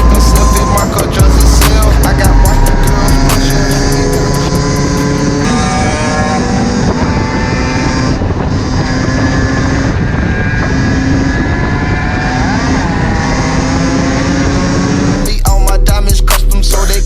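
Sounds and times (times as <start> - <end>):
wind on microphone: 0.0 - 15.3
two-stroke dirt bike engine: 0.0 - 16.0.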